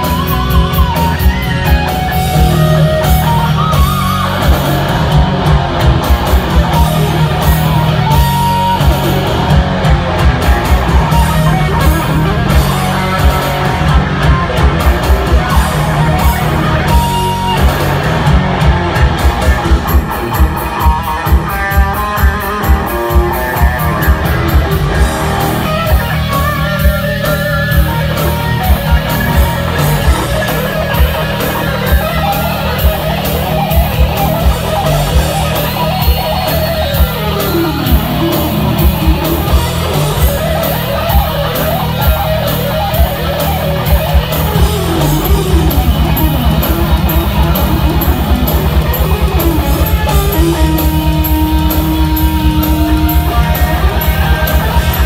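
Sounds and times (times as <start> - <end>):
bass guitar: 0.0 - 55.0
drums: 0.0 - 55.0
lead electric guitar runs: 0.0 - 55.0.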